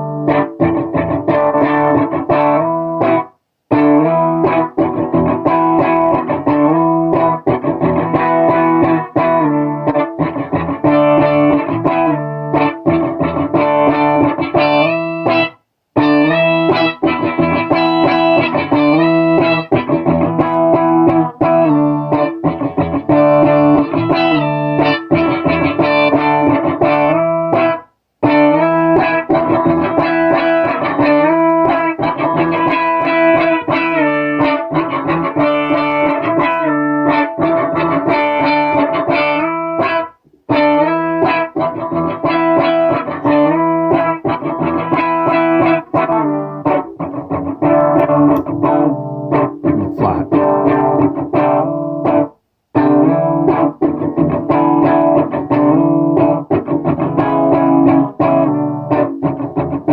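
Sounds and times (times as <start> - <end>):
pitch-shifted electric guitar: 0.0 - 59.9.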